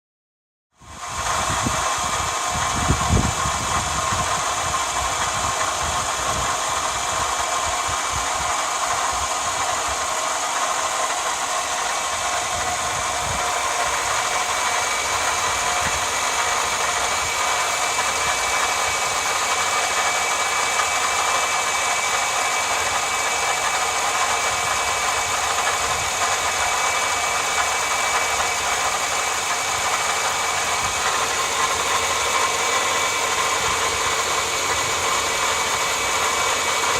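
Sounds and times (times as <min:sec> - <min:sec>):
car engine running: 0:00.8 - 0:36.9
belt tensioner whine: 0:00.9 - 0:36.9.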